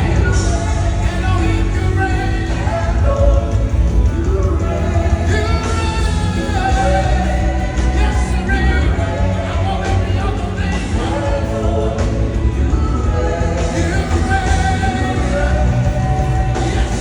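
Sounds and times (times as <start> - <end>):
band with heavy bass: 0.0 - 17.0
gospel singing: 0.0 - 17.0.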